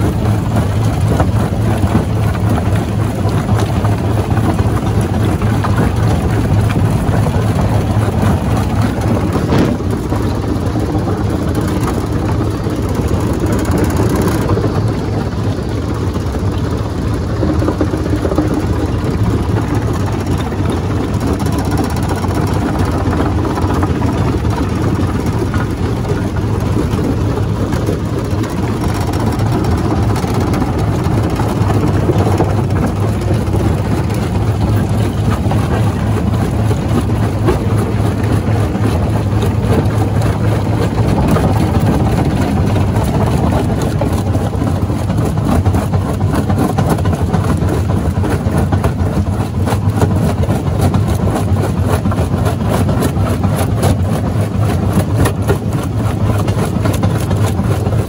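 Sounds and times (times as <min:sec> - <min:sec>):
rock crusher rumbling: 0:00.0 - 0:58.0.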